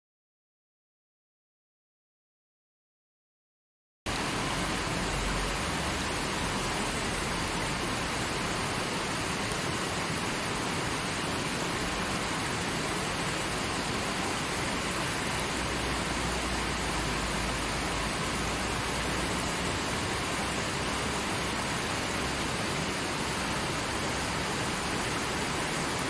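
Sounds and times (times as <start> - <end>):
river rushing over rocks: 4.1 - 26.0.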